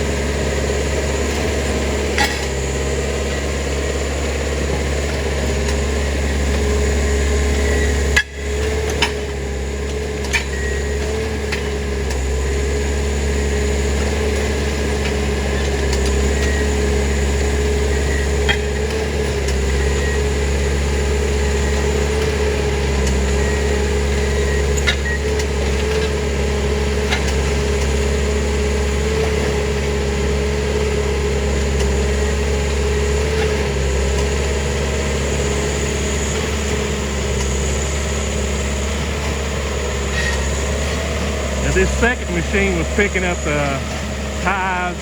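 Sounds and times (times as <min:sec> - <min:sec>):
machine engine running: 0:00.0 - 0:45.0.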